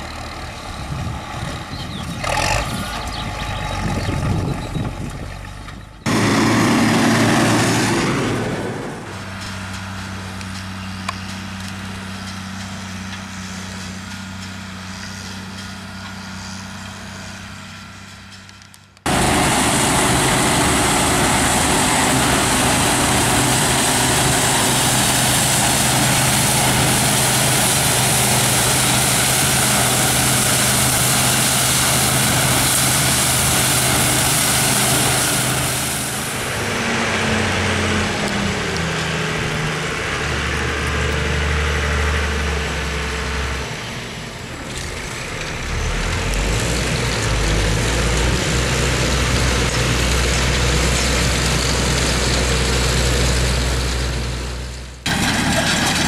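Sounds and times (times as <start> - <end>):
engine with falling pitch: 0.0 - 18.2, 19.0 - 56.0
combine harvester threshing: 0.0 - 56.0
tractor engine running: 0.0 - 56.0
tractor running baler drone: 0.0 - 56.0.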